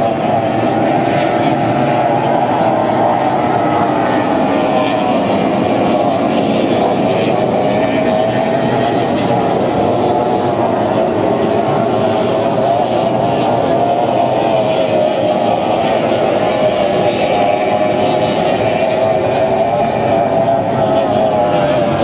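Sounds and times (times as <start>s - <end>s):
racing outboard engines droning: 0.0s - 22.0s.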